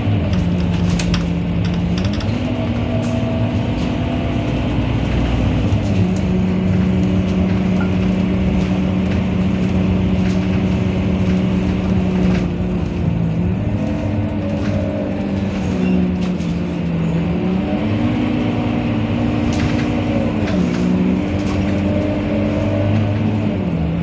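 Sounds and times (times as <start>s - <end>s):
bus diesel engine droning: 0.0s - 24.0s.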